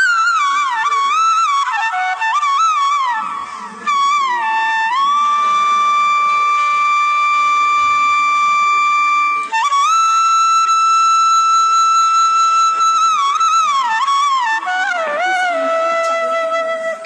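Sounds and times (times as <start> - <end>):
instrumental melody of held notes: 0.0 - 17.0.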